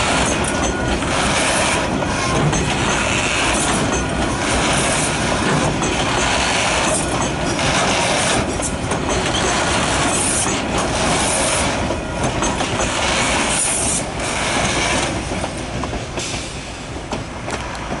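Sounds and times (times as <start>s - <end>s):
steel wheels squealing on rails: 0.0s - 18.0s.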